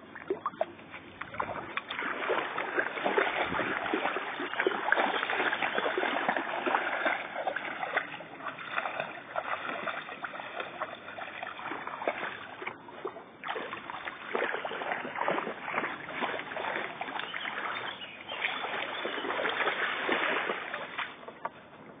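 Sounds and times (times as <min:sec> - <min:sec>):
dogs splashing through water: 0:00.0 - 0:21.5.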